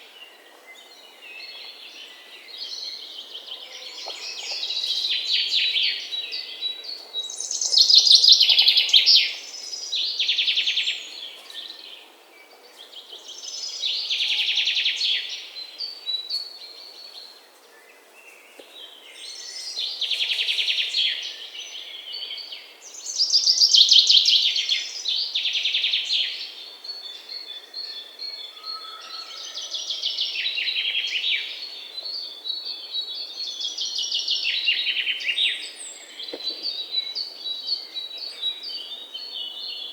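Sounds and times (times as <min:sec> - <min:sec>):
faint outdoor background: 0:00.0 - 0:39.9.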